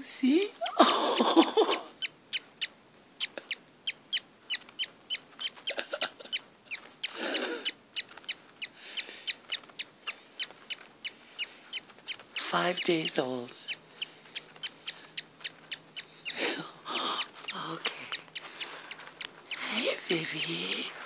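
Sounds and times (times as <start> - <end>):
bird chick peeping: 0.6 - 21.0.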